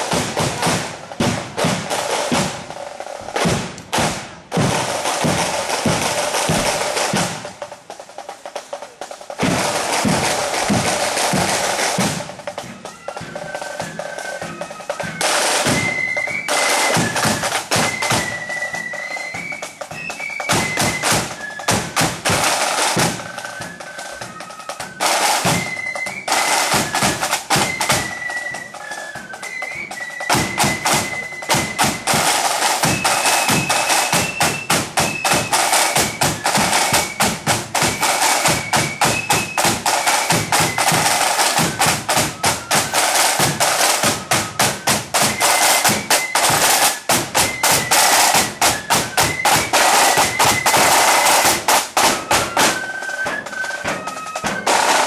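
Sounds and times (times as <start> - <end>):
snare drums rolling: 0.0 - 55.0
flutes playing a melody: 4.6 - 55.0.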